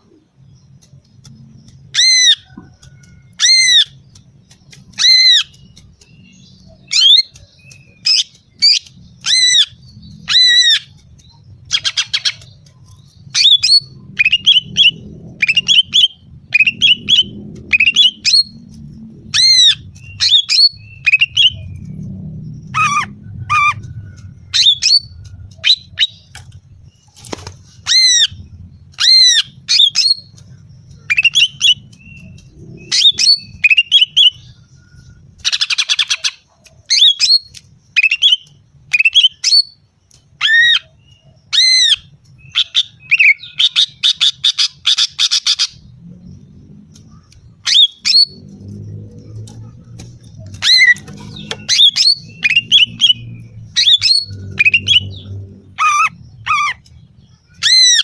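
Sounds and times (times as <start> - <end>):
faint low rumble: 0.0 - 35.9, 44.8 - 58.0.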